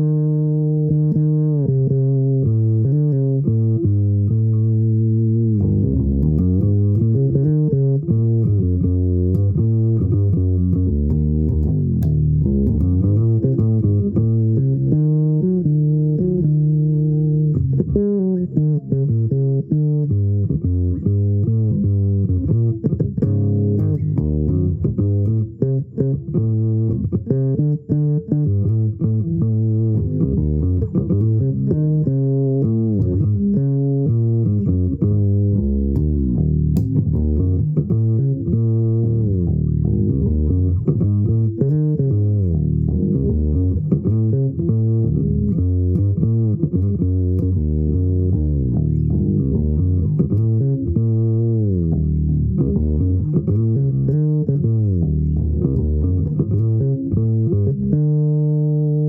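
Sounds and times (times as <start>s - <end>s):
bass guitar improvising: 0.0s - 59.0s.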